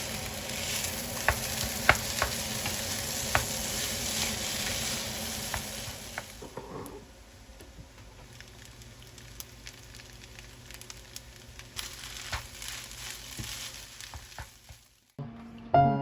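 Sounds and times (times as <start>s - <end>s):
rice sizzling in frying pan: 0.0s - 15.2s.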